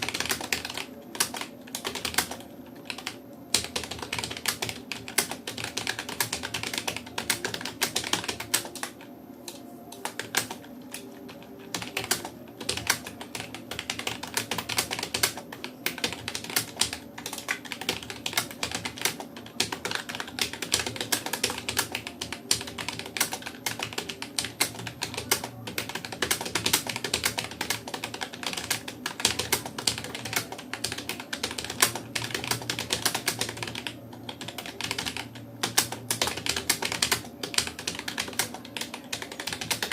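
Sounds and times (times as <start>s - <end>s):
computer keyboard keys clicking: 0.0s - 39.9s.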